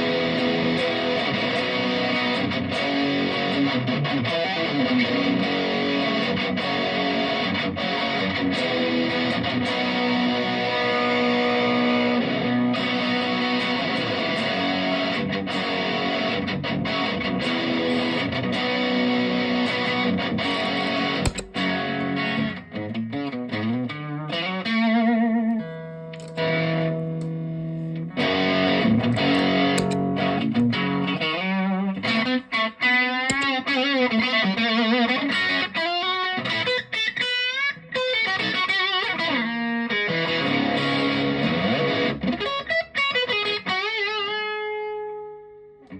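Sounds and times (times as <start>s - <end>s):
overdriven electric guitar: 0.0s - 45.9s.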